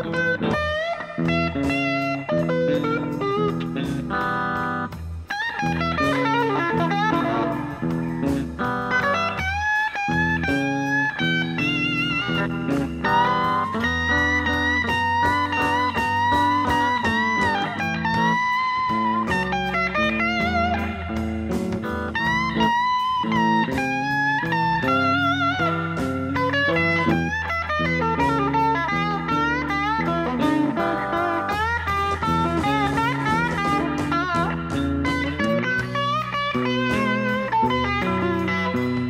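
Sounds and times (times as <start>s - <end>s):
bass guitar: 0.0s - 39.0s
drums: 0.0s - 39.0s
electric guitar lead: 0.0s - 39.0s.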